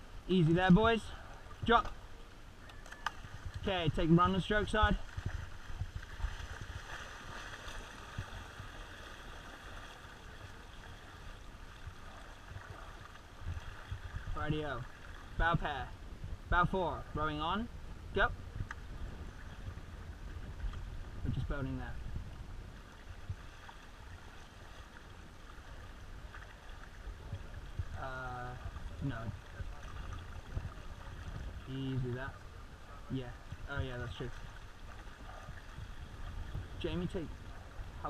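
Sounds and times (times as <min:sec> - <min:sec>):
wind rumble on microphone: 0:00.0 - 0:38.0
water lapping against hull: 0:01.1 - 0:38.0.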